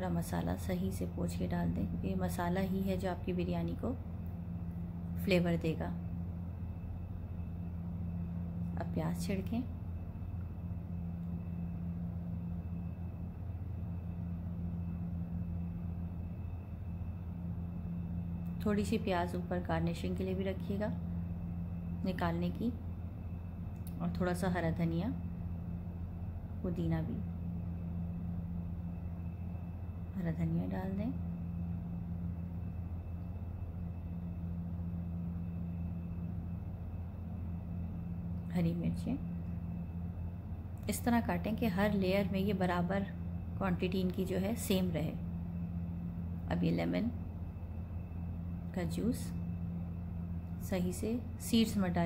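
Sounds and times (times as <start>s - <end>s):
faint high whine: 0.0s - 52.0s
low machine hum: 0.0s - 52.0s.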